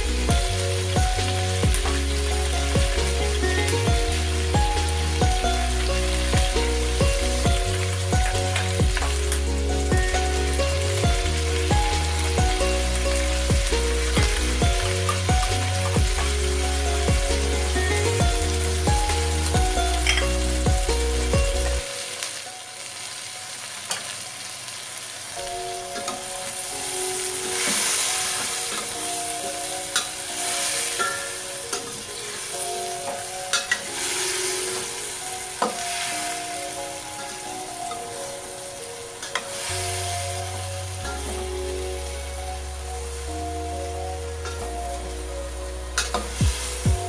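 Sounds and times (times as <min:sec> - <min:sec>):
background music with deep bass: 0:00.0 - 0:22.2, 0:25.4 - 0:47.0
chicken feet sizzling in pot: 0:00.0 - 0:47.0.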